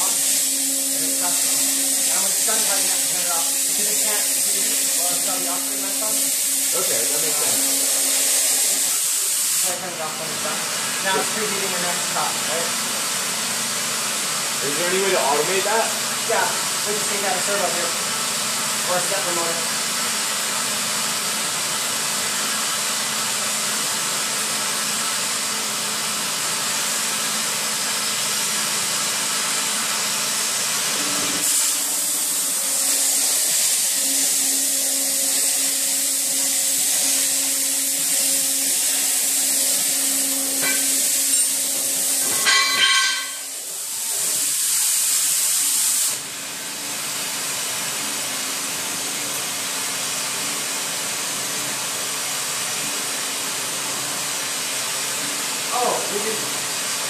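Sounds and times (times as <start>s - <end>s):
cutting torch hissing: 0.0s - 53.0s, 54.0s - 57.0s.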